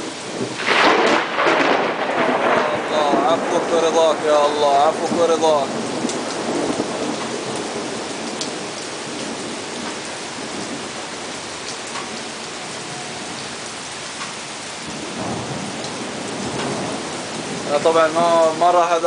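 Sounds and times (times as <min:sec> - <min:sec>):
low thunder rumble: 0:00.0 - 0:11.5, 0:14.8 - 0:19.0
heavy rain falling: 0:00.0 - 0:19.0.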